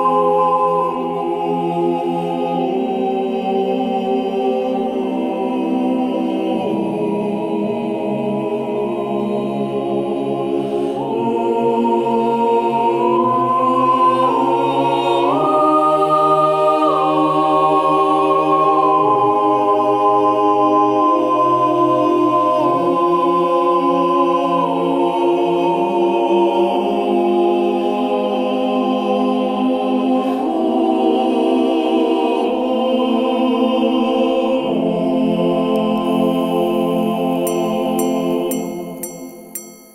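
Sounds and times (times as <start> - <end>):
choir singing sustained chords: 0.0 - 39.9.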